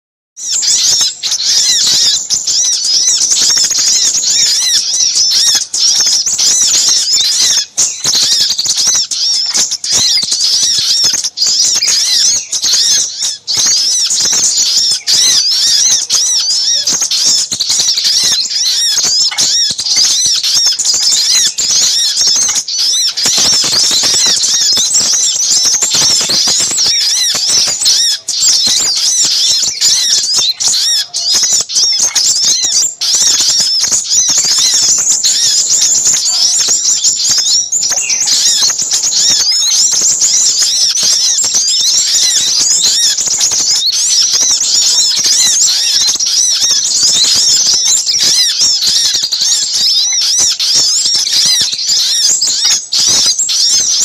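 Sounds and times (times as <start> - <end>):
small birds chirping: 0.4 - 54.0.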